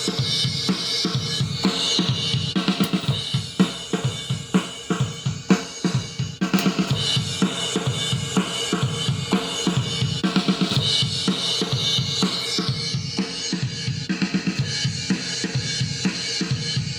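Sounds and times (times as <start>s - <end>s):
drum kit playing: 0.0s - 16.9s.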